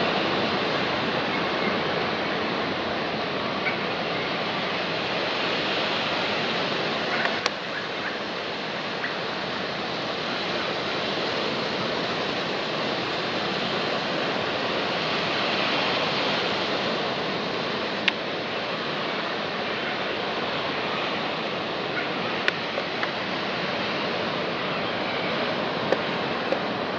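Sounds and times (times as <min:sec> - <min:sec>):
whitewater rushing over spillway: 0:00.0 - 0:26.9.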